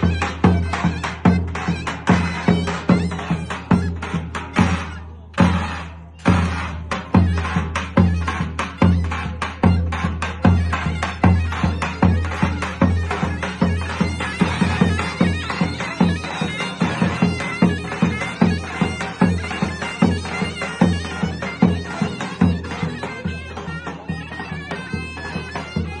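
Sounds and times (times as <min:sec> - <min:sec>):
deep davul drum strokes: 0:00.0 - 0:25.9
shrill zurna melody: 0:00.0 - 0:26.0.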